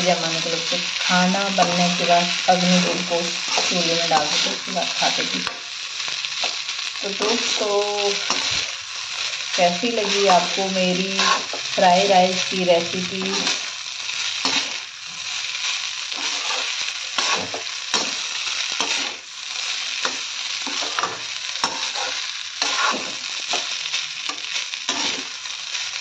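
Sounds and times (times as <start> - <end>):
rice sizzling in a pan: 0.0 - 26.0
metal spatula scraping a pan: 0.3 - 5.6, 6.3 - 25.4.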